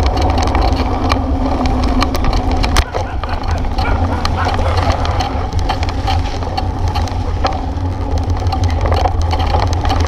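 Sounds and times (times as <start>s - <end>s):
bicycle clicking and rattling: 0.0s - 10.0s.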